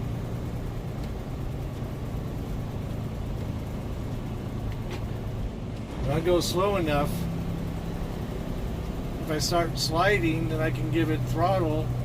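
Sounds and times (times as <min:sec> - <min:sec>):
truck engine and tyre drone: 0:00.0 - 0:12.0.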